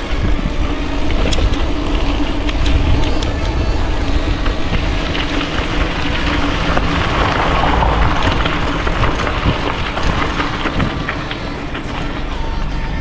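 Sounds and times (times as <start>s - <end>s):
small clicks and rattles: 0.0s - 13.0s
wind buffeting microphone: 0.0s - 13.0s.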